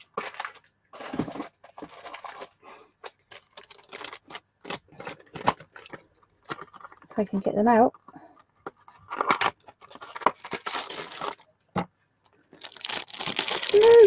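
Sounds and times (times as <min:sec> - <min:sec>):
plastic packaging crinkling: 0:00.0 - 0:07.2, 0:08.6 - 0:11.6, 0:12.3 - 0:14.0.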